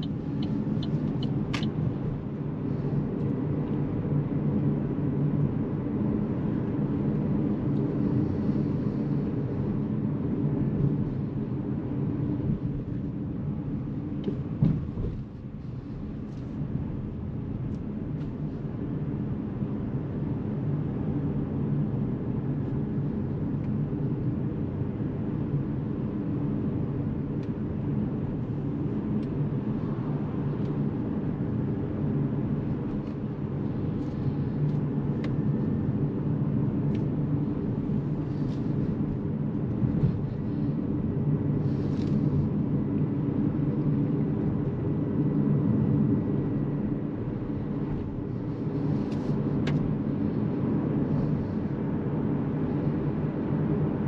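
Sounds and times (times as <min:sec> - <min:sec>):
road and tyre rumble in car cabin: 0:00.0 - 0:54.0.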